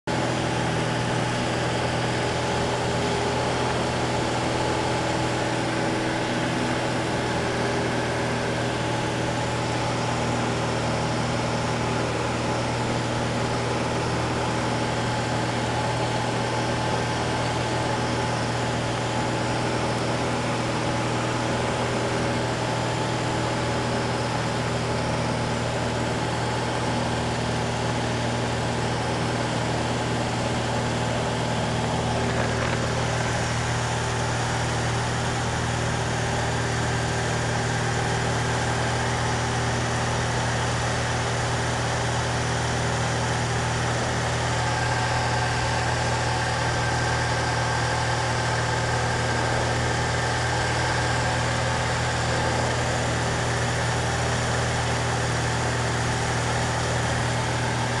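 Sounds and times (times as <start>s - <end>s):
aircraft engine droning in cabin: 0.1s - 58.0s.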